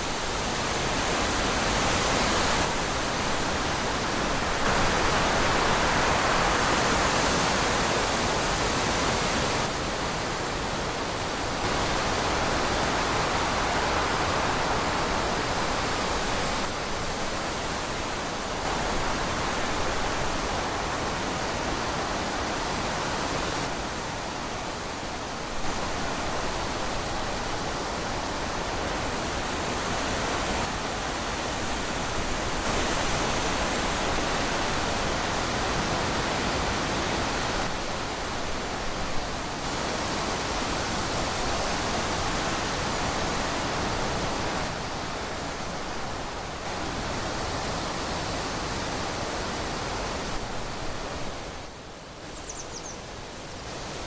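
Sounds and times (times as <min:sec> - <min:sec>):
wind rushing through trees: 0:00.0 - 0:54.0.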